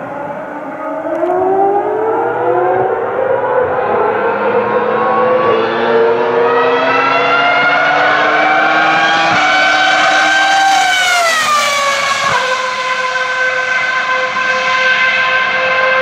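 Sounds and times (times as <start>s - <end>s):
racing engine revving: 0.0s - 16.0s.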